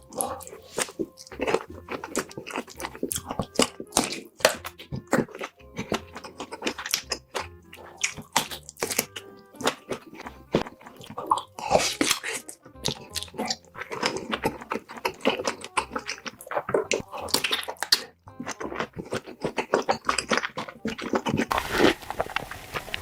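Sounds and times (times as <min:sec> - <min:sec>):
quiet background music: 0:00.0 - 0:23.0
sausages being chewed: 0:00.0 - 0:23.0.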